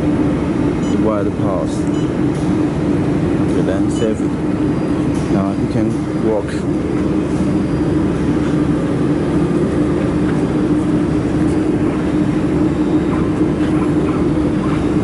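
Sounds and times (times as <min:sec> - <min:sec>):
machine fan hum: 0:00.0 - 0:15.0.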